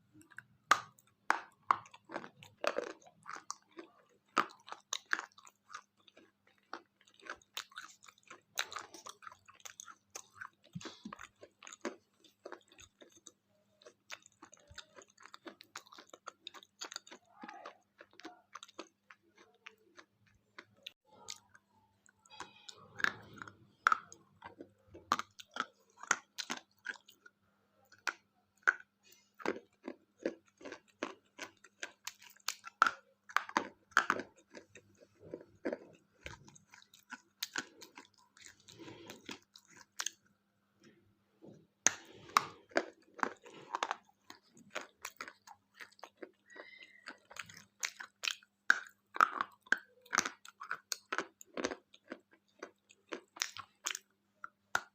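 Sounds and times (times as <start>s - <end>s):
chewing crunchy wafer bar: 0.0s - 54.9s.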